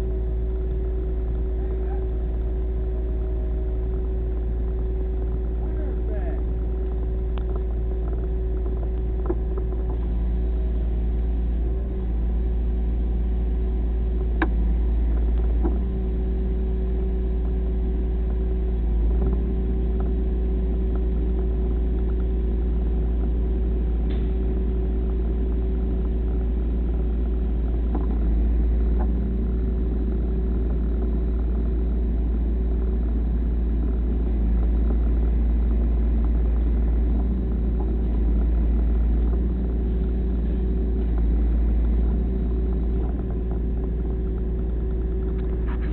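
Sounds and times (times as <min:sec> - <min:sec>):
faint clicks and knocks: 0:00.0 - 0:11.8, 0:14.1 - 0:16.0, 0:16.9 - 0:45.9
tractor engine running: 0:00.0 - 0:45.9.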